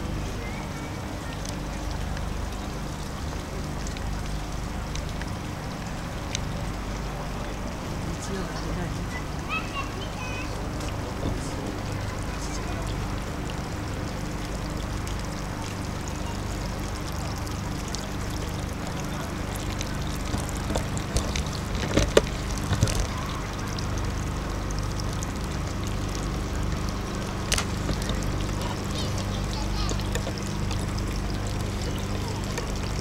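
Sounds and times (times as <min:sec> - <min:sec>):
low steady hum: 0:00.0 - 0:33.0
water trickling: 0:00.0 - 0:33.0.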